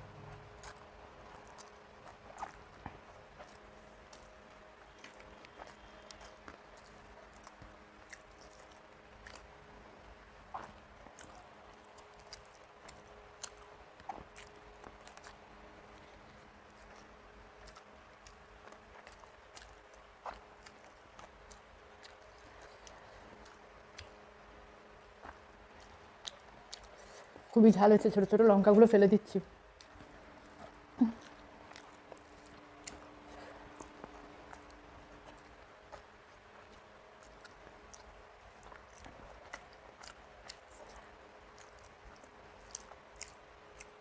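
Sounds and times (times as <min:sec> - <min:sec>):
faint steady hum: 0:00.0 - 0:44.0
chewing with mouth clicks: 0:00.2 - 0:28.2, 0:29.6 - 0:44.0.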